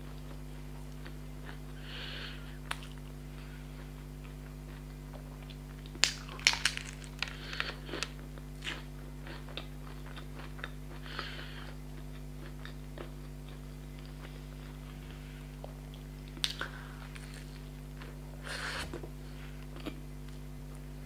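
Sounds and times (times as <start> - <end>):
crunchy biting and chewing: 2.7 - 20.1.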